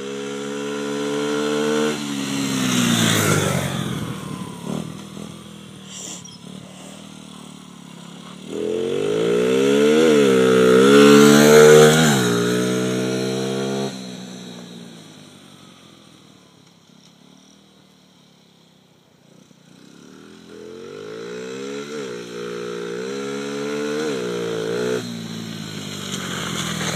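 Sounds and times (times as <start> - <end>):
minibike engine revving through gears: 0.0 - 16.2, 19.2 - 26.9.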